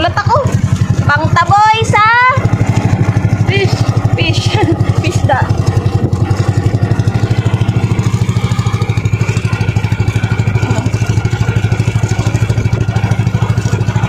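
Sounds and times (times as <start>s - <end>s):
boat engine puttering: 0.0s - 14.0s.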